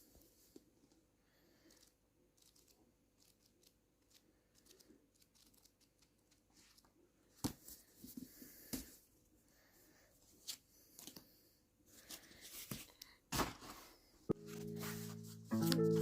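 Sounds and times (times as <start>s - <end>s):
faint rustling of book: 0.0s - 16.0s.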